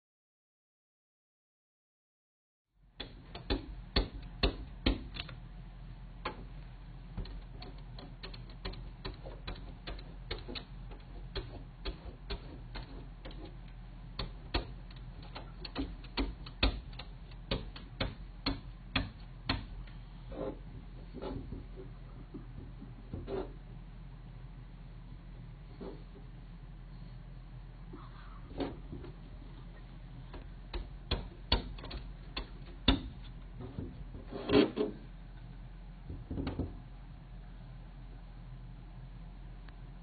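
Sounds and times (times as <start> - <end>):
low steady hum: 2.8 - 40.0.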